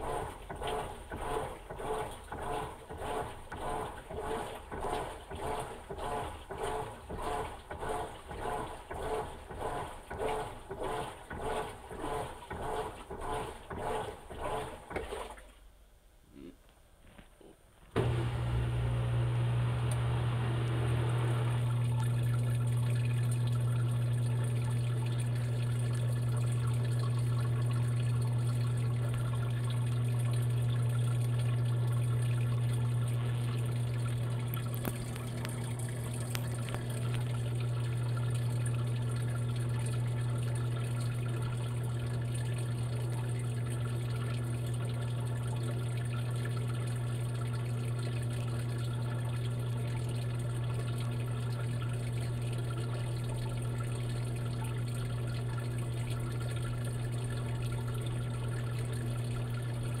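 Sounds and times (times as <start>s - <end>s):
washing machine humming: 0.0s - 15.6s, 17.9s - 60.0s
water moving in washing machine: 0.0s - 15.7s, 17.9s - 60.0s.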